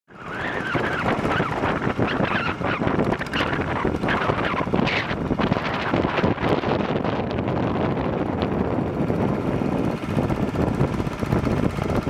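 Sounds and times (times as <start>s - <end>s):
boat noise: 0.1s - 12.0s
wind buffeting microphone: 0.1s - 12.0s.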